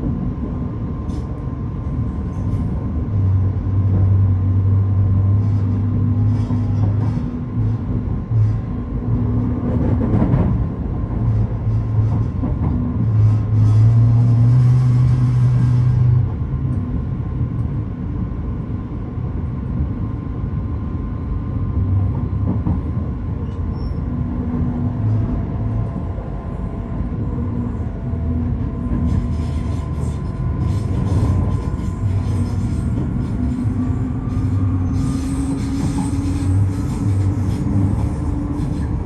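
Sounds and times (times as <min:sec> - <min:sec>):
train rattle: 0:00.0 - 0:18.9, 0:19.6 - 0:39.0
train rumble: 0:00.0 - 0:39.0.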